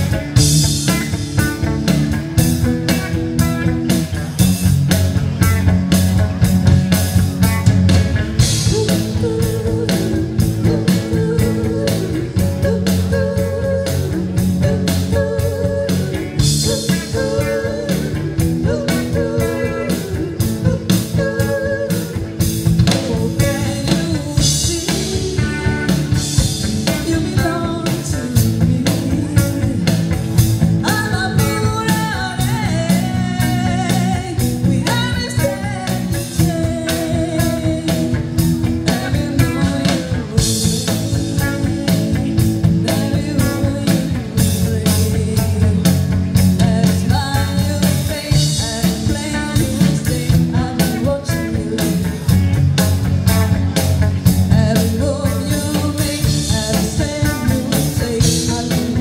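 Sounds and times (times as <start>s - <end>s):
bass guitar: 0.0s - 59.0s
drum kit beat: 0.0s - 59.0s
electric guitars: 0.0s - 59.0s
woman singing: 8.4s - 52.6s, 54.4s - 59.0s.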